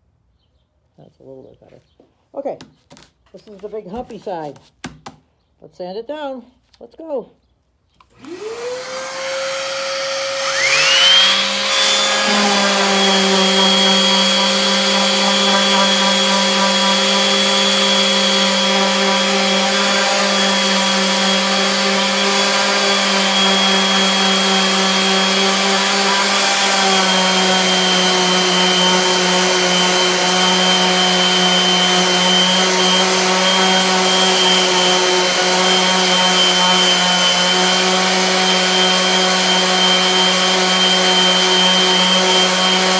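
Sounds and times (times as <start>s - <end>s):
electric sander running: 8.1s - 42.9s.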